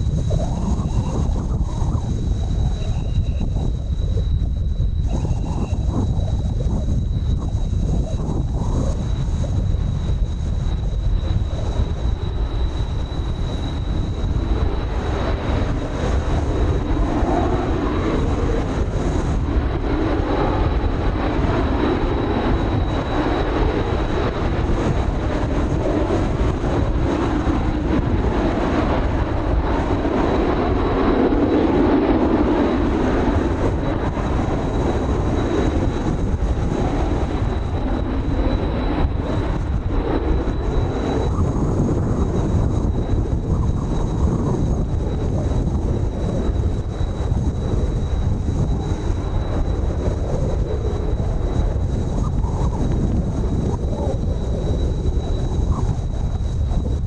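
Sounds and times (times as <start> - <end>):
jet engines rumbling overhead: 0.0 - 57.0
wind buffeting microphone: 0.0 - 57.0.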